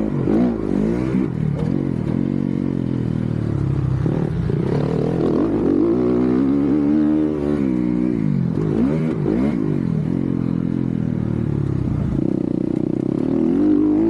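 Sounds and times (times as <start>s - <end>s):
dirt bike engine revving: 0.0s - 10.9s, 11.9s - 14.0s.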